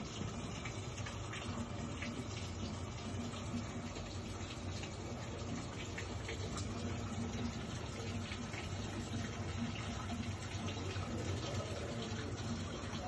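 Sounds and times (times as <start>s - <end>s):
water running into washing machine: 0.0s - 13.0s.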